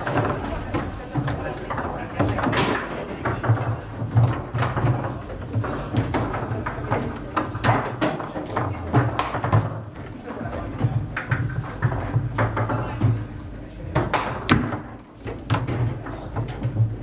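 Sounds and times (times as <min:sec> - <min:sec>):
ball clacking on foosball players: 0:00.0 - 0:17.0
foosball rods knocking: 0:00.0 - 0:17.0.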